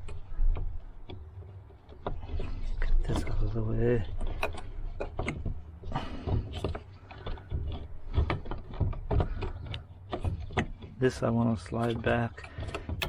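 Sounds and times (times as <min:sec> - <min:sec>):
parts clicking and rattling: 0:00.0 - 0:13.0.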